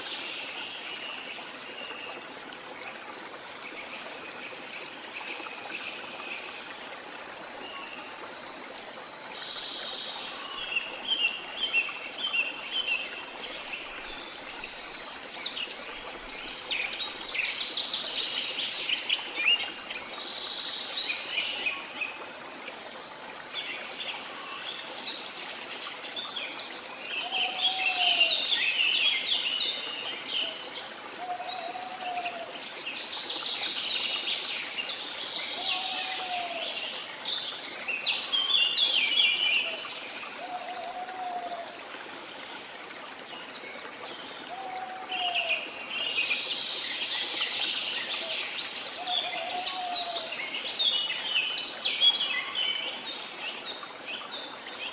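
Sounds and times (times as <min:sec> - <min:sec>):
waterfall running water: 0:00.0 - 0:54.9.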